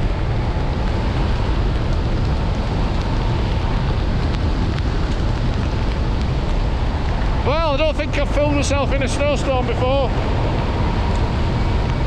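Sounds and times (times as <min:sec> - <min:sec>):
wind rushing over microphone: 0:00.0 - 0:12.0
faint hail ticks: 0:00.7 - 0:12.0.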